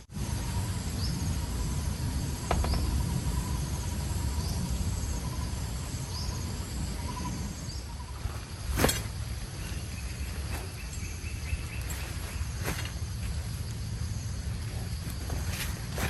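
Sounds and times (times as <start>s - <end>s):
faint steady insect whine: 0.0s - 16.0s
insect rising chirp: 0.0s - 16.0s
steady low rumble: 0.0s - 16.0s.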